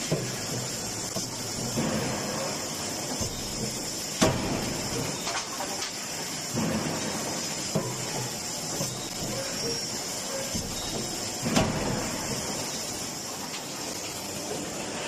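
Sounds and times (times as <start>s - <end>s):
forge shop noise: 0.0s - 15.0s.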